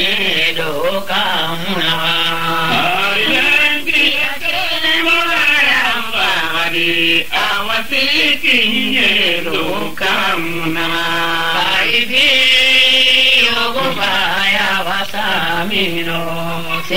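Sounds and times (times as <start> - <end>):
person chanting in held notes: 0.0 - 16.9.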